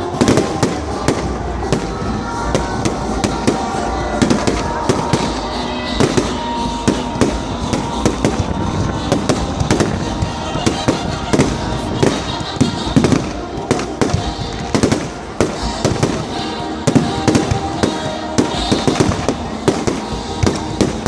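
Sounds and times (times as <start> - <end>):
faint music: 0.0 - 21.0.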